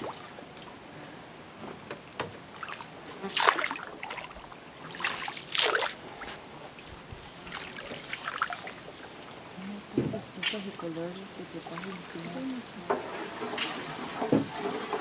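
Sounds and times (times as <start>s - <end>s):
water splashing and dripping: 2.0s - 15.0s.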